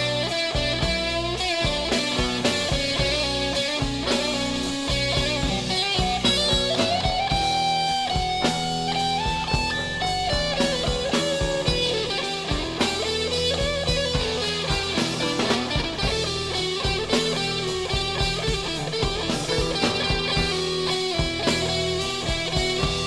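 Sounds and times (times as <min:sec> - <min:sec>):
bass: 0:00.0 - 0:23.0
electric guitar bending notes: 0:00.0 - 0:23.0
steady drum beat: 0:00.0 - 0:23.0.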